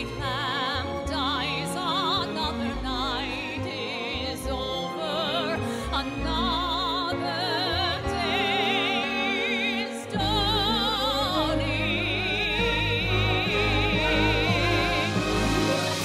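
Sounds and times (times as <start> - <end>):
orchestra: 0.0 - 16.0
woman singing with vibrato: 0.0 - 16.0.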